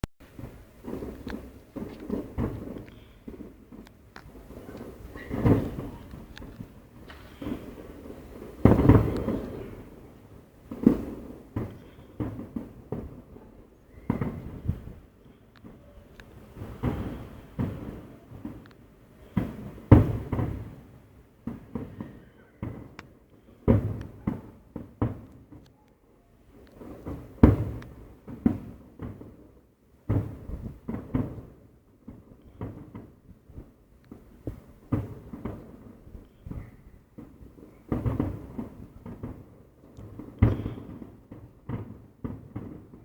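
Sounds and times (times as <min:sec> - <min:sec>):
fireworks booming: 0:00.2 - 0:25.6, 0:26.4 - 0:43.0.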